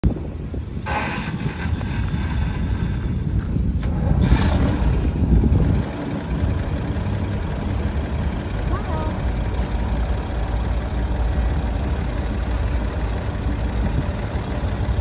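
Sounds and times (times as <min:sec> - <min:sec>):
tractor engine idling: 0:00.7 - 0:15.0.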